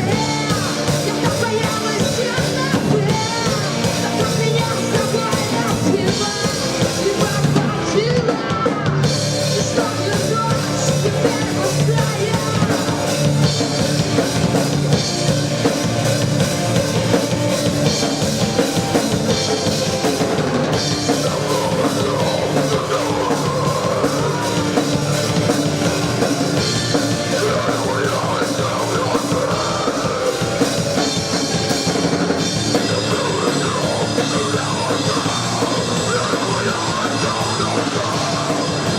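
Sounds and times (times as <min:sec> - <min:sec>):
person singing: 0:00.0 - 0:14.6, 0:19.0 - 0:38.9
distorted guitars: 0:00.0 - 0:38.9
drum kit: 0:00.0 - 0:38.9.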